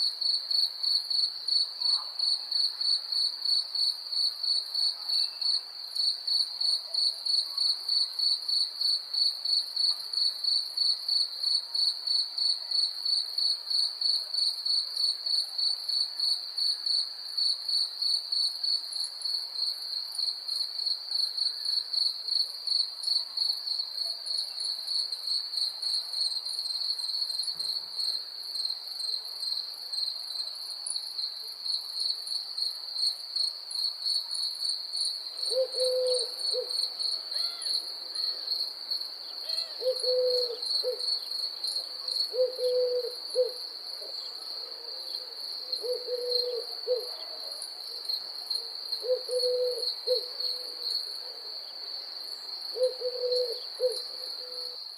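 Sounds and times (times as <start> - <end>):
crickets chirping: 0.0 - 54.9
faint background hiss: 0.0 - 54.9.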